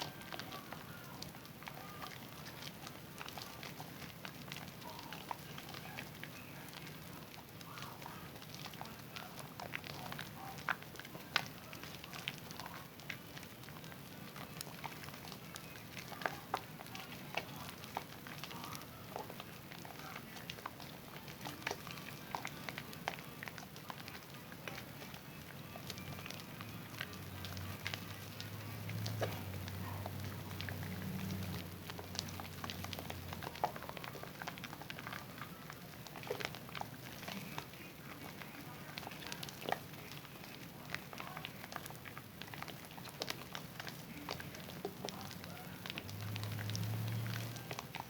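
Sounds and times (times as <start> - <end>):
crackle of popping suds: 0.0 - 48.0
wet soap squishing: 0.0 - 48.0.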